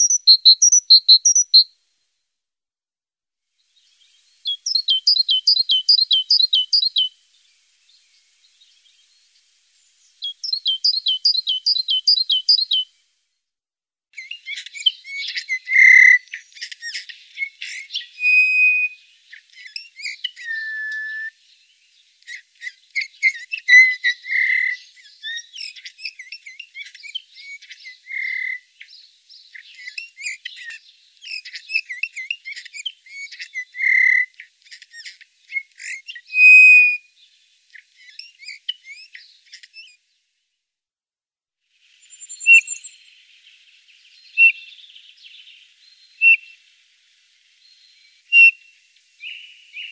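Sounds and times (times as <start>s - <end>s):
songbirds chirping and singing: 0.0s - 1.7s, 3.6s - 12.9s, 14.2s - 40.0s, 42.0s - 49.9s.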